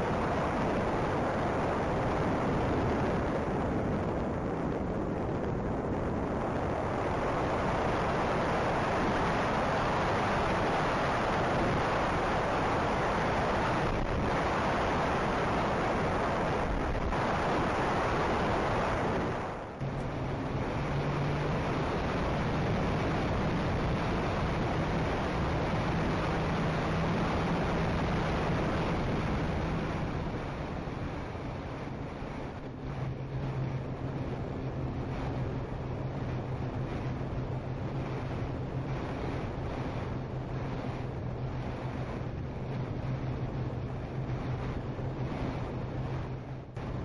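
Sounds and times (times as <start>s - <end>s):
electric motors and propellers humming: 0.0s - 47.0s
wind rushing over microphone: 0.0s - 47.0s.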